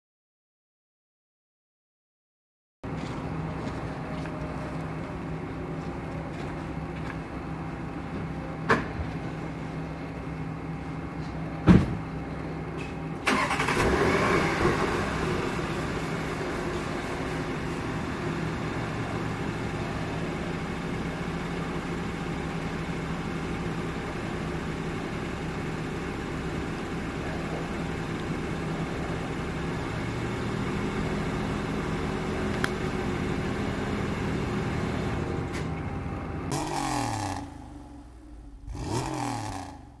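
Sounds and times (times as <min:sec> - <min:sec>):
car engine idling: 0:02.8 - 0:40.0.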